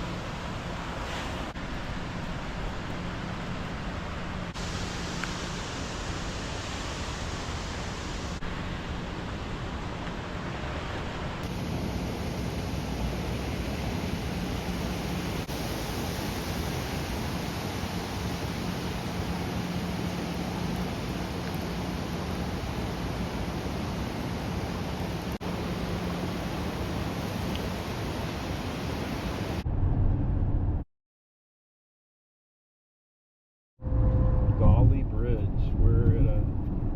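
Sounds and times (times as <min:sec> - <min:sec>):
waterfall roaring: 0:00.0 - 0:29.6.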